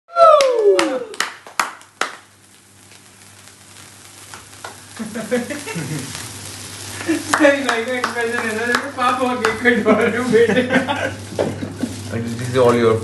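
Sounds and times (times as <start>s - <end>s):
sparklers fizzing: 0.1s - 13.0s.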